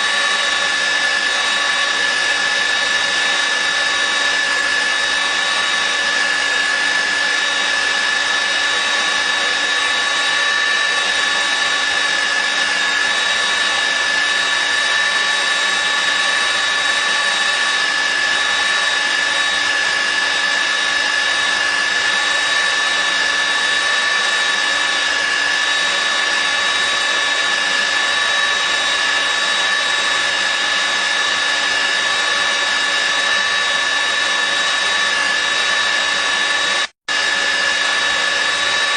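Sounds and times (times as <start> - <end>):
drilling machine motor whine: 0.0 - 38.9.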